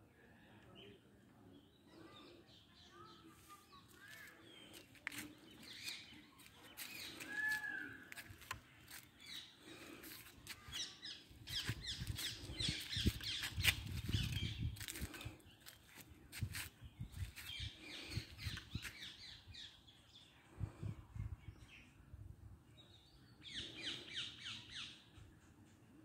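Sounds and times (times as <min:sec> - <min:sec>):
small birds chirping: 0:00.2 - 0:22.1, 0:22.8 - 0:26.0.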